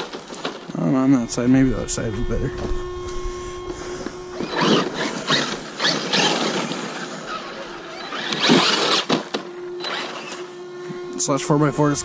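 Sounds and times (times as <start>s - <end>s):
tyres scrabbling on dirt and leaves: 0.0s - 10.6s
electric rc truck driving: 0.0s - 12.0s.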